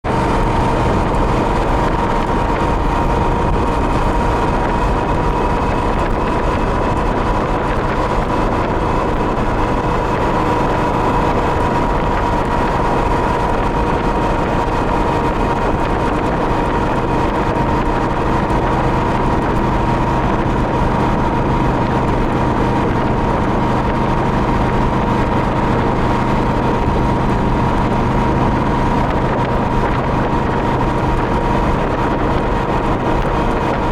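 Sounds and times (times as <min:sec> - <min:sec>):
motorcycle engine drone: 0:00.0 - 0:33.9
road and wind noise: 0:00.0 - 0:33.9.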